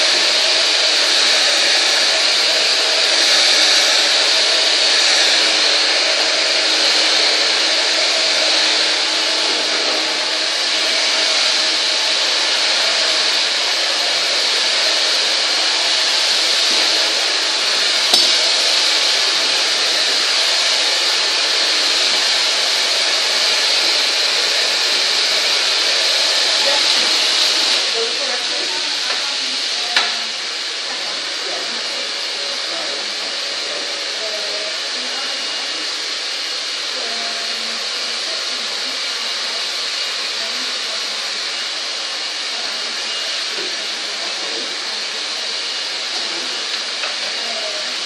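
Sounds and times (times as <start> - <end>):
hair dryer running: 0.0 - 48.0.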